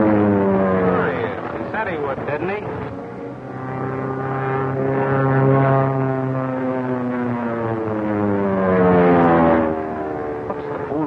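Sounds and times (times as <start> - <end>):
propeller plane flying overhead: 0.0 - 11.0.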